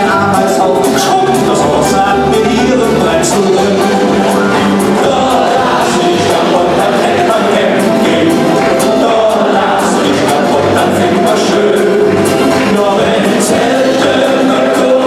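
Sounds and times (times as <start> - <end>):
band accompaniment: 0.0 - 15.0
men singing in harmony: 0.0 - 15.0
steady percussion beat: 0.0 - 15.0.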